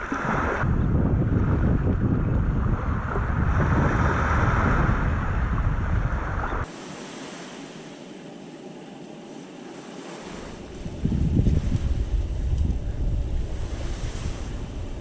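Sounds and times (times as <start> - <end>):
wind buffeting microphone: 0.0 - 7.5, 10.2 - 15.0
rushing water: 0.0 - 12.6
surf: 0.0 - 15.0.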